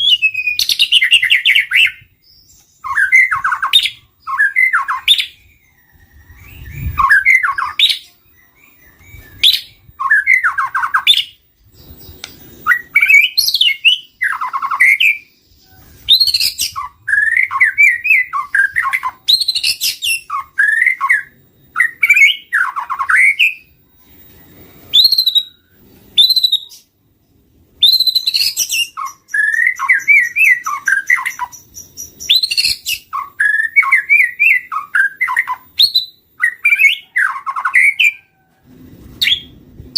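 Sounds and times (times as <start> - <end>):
bird singing whistles: 0.0 - 26.9, 27.8 - 38.4, 39.1 - 39.6.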